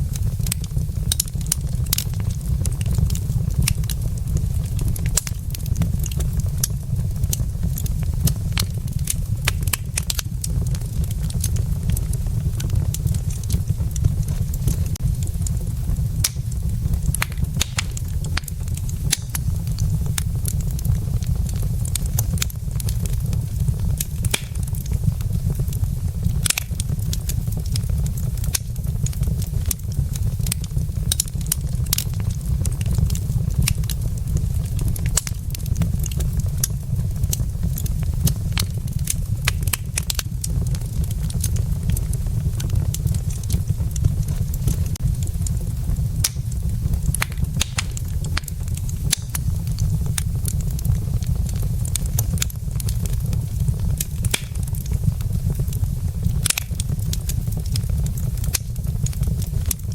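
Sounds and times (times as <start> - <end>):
low rumble of fire: 0.0 - 59.9
wood fire crackling: 0.0 - 59.9.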